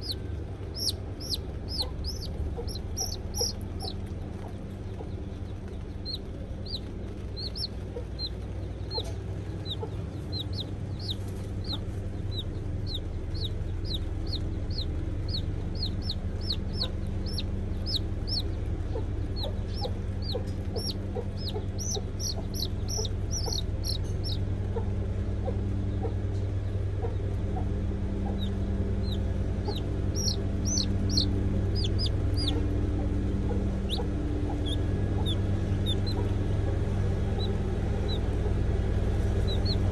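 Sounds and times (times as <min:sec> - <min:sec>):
baby chick peeping: 0:00.0 - 0:39.9
steady low hum: 0:00.0 - 0:39.9.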